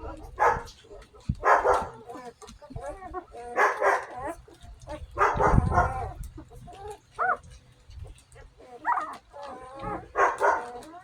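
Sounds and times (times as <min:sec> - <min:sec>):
puppies whining and squeaking: 0:00.0 - 0:11.0.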